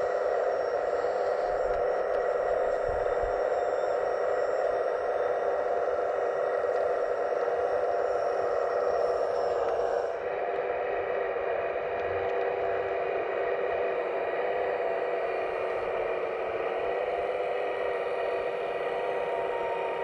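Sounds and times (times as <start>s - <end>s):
electric motors whirring: 0.0s - 20.0s
high whine: 0.0s - 20.0s.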